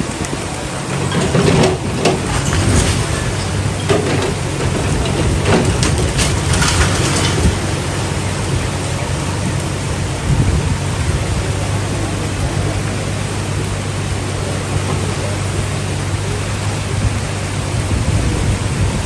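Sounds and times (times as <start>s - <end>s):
rushing water: 0.0s - 19.0s
splashy crackles: 0.0s - 19.0s.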